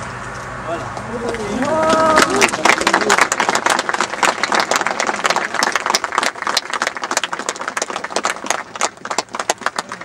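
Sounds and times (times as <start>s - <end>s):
crowd applauding: 1.2s - 10.0s.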